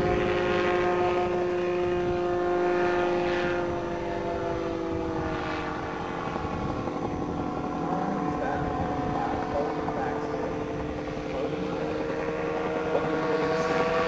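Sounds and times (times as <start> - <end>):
aircraft engine and propeller droning: 0.0 - 14.0.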